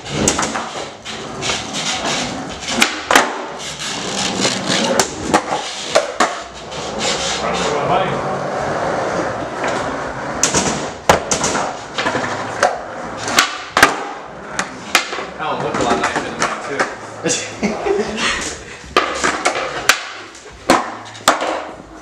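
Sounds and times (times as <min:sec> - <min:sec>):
skateboard wooden clacks: 0:00.0 - 0:07.3, 0:09.5 - 0:17.0, 0:18.4 - 0:21.9
skateboard wheels rolling: 0:00.0 - 0:22.0.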